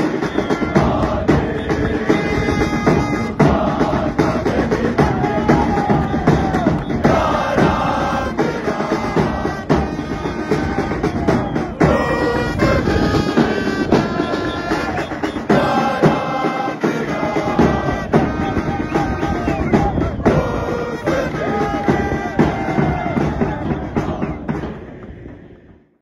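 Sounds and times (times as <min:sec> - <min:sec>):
drums beating: 0:00.0 - 0:25.9
crowd singing a chant: 0:00.0 - 0:26.0.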